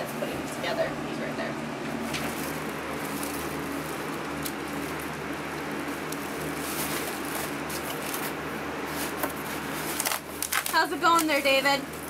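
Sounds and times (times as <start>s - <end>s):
electric fans humming: 0.0s - 12.0s
cardboard box and plastic crinkling: 2.0s - 12.0s.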